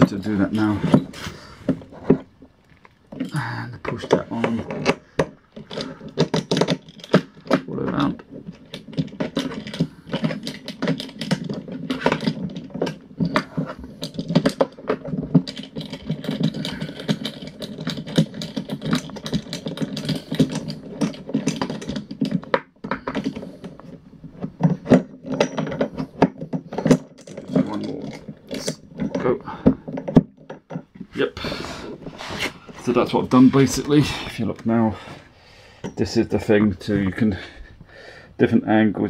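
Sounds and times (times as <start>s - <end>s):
plastic parts clicking and rattling: 0.0s - 35.0s.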